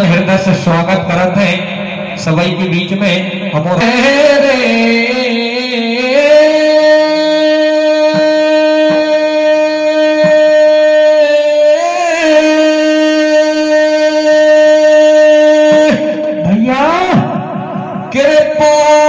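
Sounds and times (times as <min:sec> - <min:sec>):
man singing through loudspeaker: 0:00.0 - 0:19.0.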